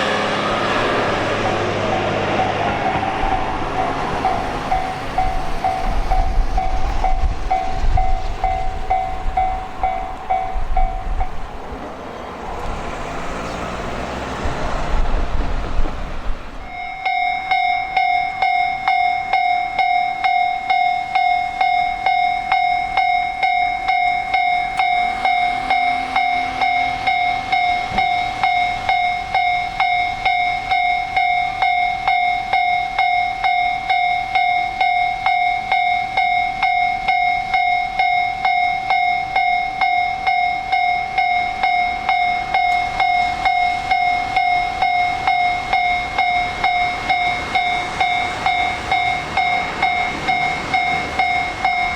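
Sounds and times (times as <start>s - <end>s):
railroad crossing bell ringing: 0.0s - 14.8s, 16.5s - 51.9s.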